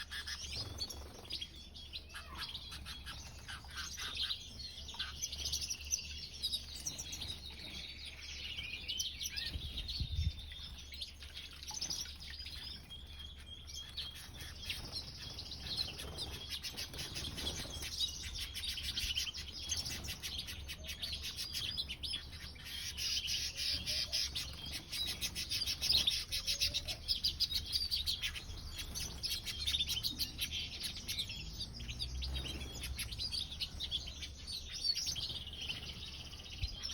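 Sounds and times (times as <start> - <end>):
small birds chirping and twittering: 0.0 - 36.9.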